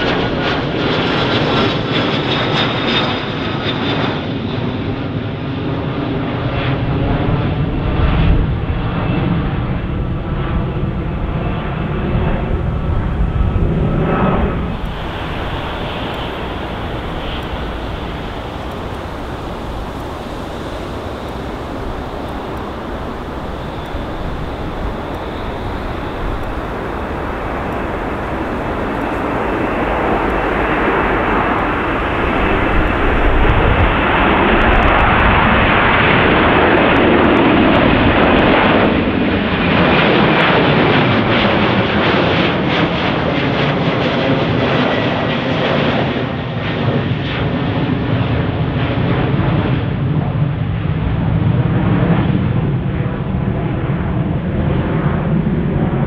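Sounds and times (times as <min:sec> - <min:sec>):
high jet engine whine: 0:00.0 - 0:56.0
jet engines rumbling: 0:00.0 - 0:56.0.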